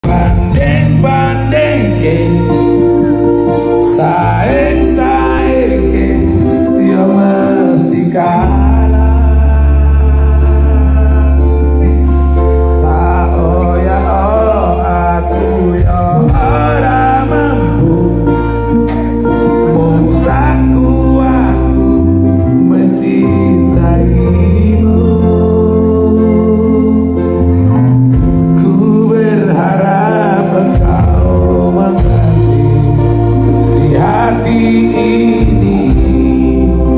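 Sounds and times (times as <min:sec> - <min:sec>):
deep sustained bass notes: 0:00.0 - 0:36.9
live band through pa: 0:00.0 - 0:36.9
man singing into microphone: 0:00.0 - 0:36.9.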